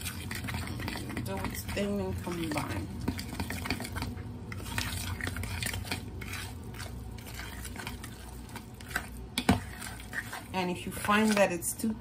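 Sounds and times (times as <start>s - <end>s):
utensil stirring batter in bowl: 0.0s - 12.0s.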